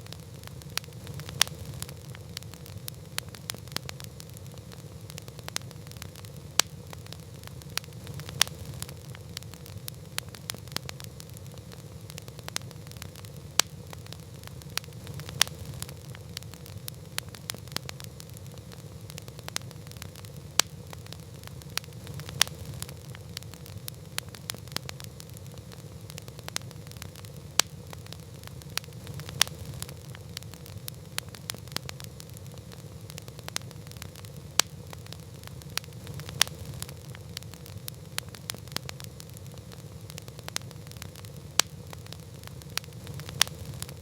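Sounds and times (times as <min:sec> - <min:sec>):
burning wood crackling and popping: 0:00.0 - 0:44.0
low rumble of flame: 0:00.0 - 0:44.0.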